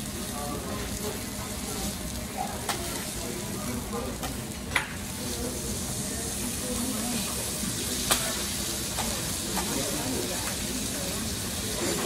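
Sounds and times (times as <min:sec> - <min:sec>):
steaks sizzling on a griddle: 0:00.0 - 0:12.0.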